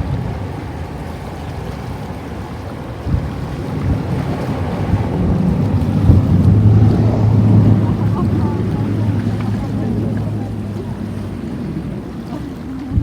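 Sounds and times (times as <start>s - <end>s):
low steady hum: 0.0s - 13.0s
wind rumble on microphone: 0.0s - 13.0s.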